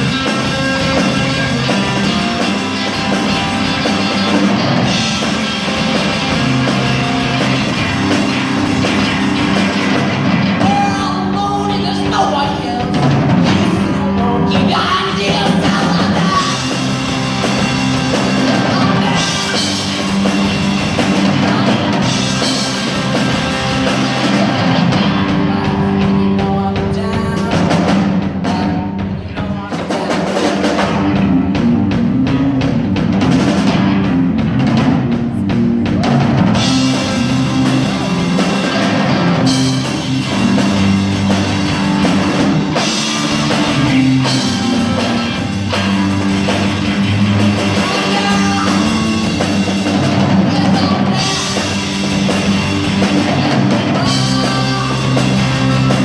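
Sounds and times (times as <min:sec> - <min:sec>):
drum kit: 0:00.0 - 0:56.0
electric guitars through amps: 0:00.0 - 0:56.0.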